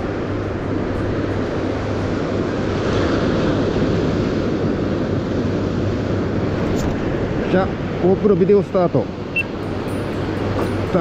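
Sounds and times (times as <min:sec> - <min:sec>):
ocean surf rushing: 0:00.0 - 0:11.0.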